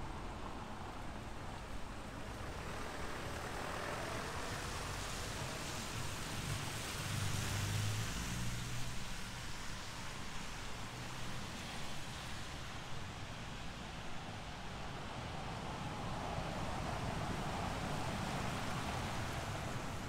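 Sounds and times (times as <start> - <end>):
rain hissing on pavement: 1.6 - 20.0
vehicle passing on wet street: 1.6 - 20.0.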